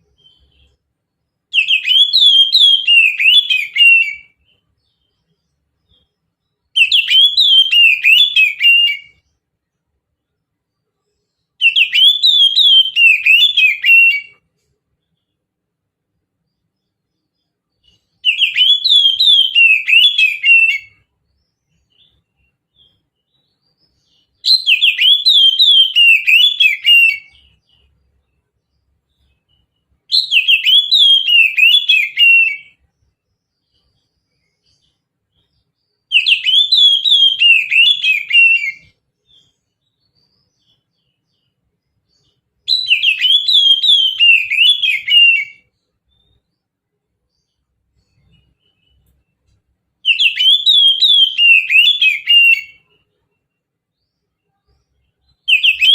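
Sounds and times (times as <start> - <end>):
bird singing whistled notes: 0.0 - 9.4, 10.2 - 15.4, 16.4 - 49.4, 50.0 - 55.9.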